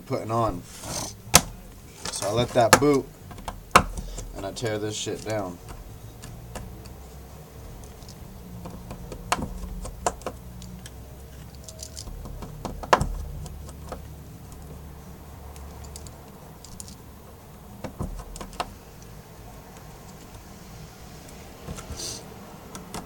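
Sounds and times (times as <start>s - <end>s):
hand tools clicking and tapping: 1.2s - 20.5s, 21.2s - 23.0s.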